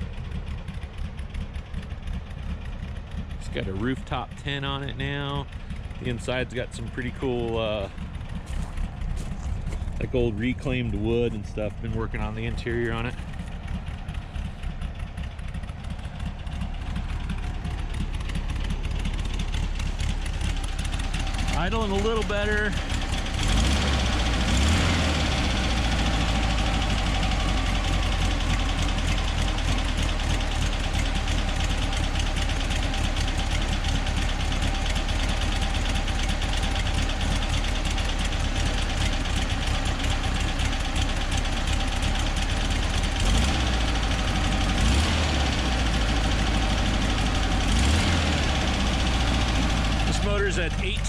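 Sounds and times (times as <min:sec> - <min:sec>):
air-cooled engine idling: 0:00.0 - 0:51.0.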